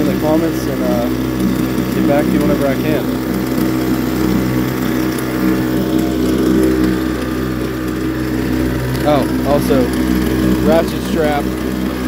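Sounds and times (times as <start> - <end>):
outboard motor running: 0.0 - 12.0
propeller churning water: 0.0 - 12.0.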